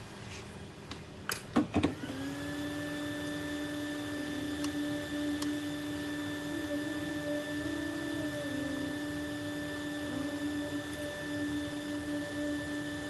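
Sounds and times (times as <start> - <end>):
electric blower motor whirring: 1.8 - 13.0.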